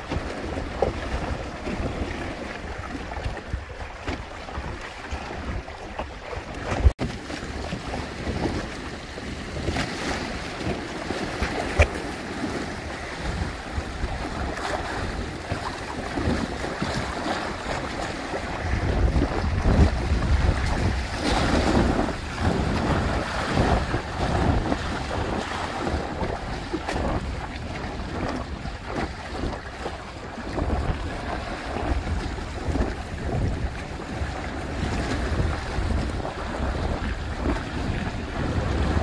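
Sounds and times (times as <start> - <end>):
water splashing along hulls: 0.0 - 39.0
wind buffeting microphone: 0.0 - 39.0.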